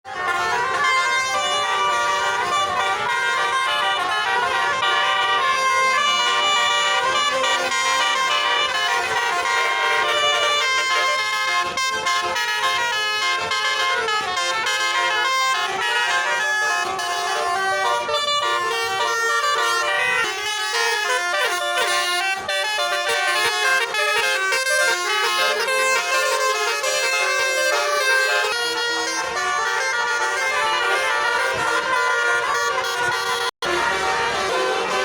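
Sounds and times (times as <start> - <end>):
multi-tone vehicle horn melody: 0.0 - 35.0.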